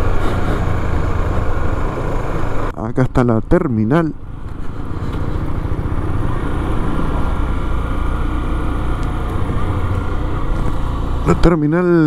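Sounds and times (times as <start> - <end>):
motorcycle engine running: 0.0 - 2.7, 4.2 - 12.0.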